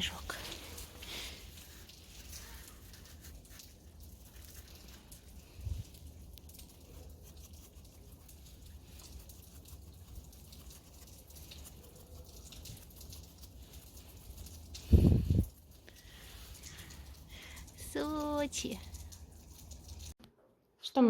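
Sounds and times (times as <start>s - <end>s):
faint light patter: 0.0s - 20.2s.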